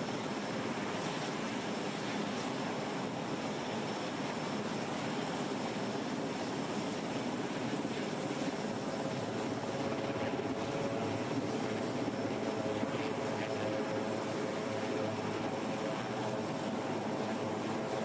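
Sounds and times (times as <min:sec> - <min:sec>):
aircraft engines running: 0:00.0 - 0:18.0.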